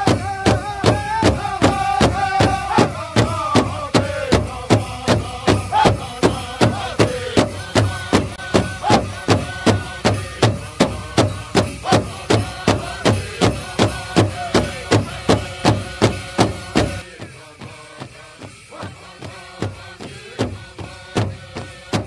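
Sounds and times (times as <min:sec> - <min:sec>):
drum beating steadily: 0:00.0 - 0:22.0.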